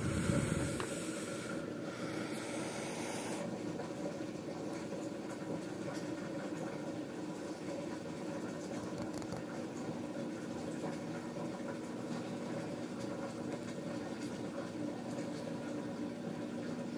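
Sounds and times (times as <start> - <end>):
background hum and hiss: 0.0 - 16.9.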